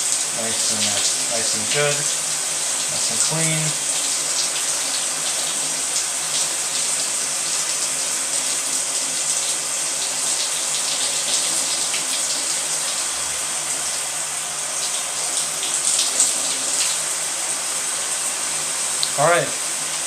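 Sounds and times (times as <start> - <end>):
shower water spraying: 0.0 - 20.0.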